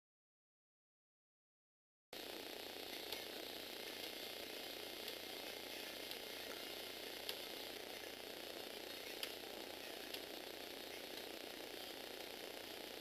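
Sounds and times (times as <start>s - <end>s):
small electric motor whirring: 2.2s - 13.0s.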